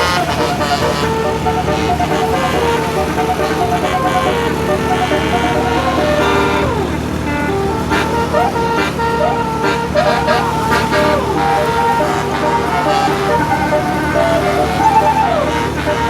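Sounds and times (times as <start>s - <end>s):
bus engine running: 0.0s - 16.0s
musical bus horn: 0.0s - 16.0s.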